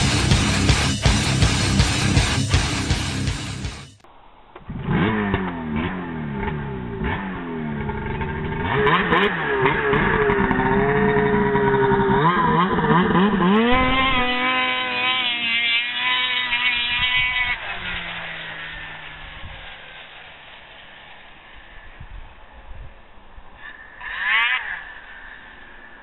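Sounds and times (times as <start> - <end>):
snowmobile engine revving: 0.0 - 4.0, 4.6 - 26.0.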